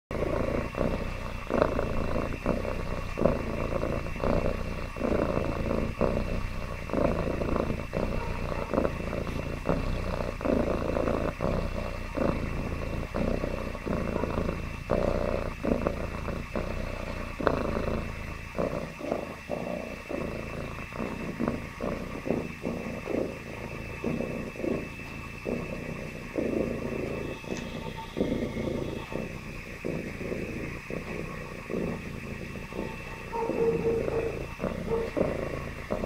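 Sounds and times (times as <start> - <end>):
cat purring: 0.0 - 36.0.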